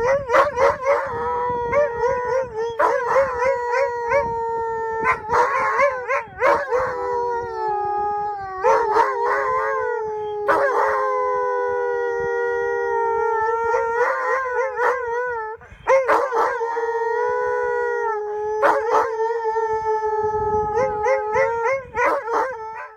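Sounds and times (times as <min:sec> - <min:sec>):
huskies howling: 0:00.0 - 0:22.9.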